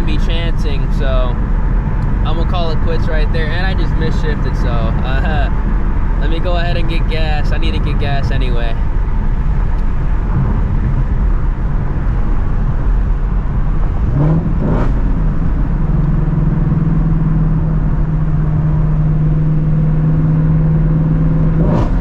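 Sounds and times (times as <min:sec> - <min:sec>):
car engine cruising: 0:00.0 - 0:22.0
road noise: 0:00.0 - 0:22.0.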